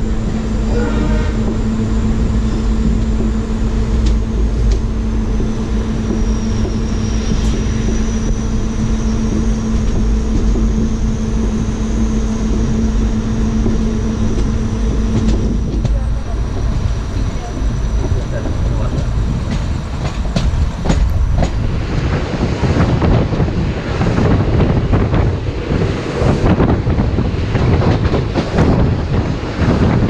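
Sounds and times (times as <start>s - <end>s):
loud rumble of train wheels: 0.0s - 30.0s.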